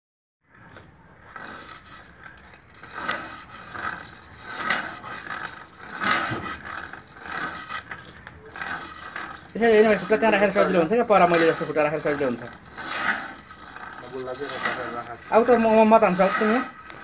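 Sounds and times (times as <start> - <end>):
blade scraping on sharpener: 1.4 - 17.0.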